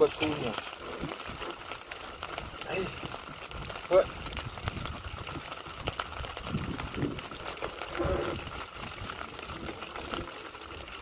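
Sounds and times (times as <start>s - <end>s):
low rumbles: 0.0s - 11.0s.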